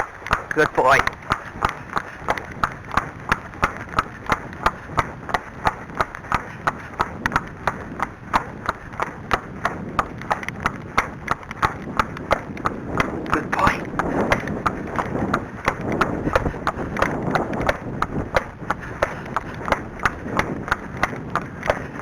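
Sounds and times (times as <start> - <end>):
horse hooves trotting: 0.0 - 22.0.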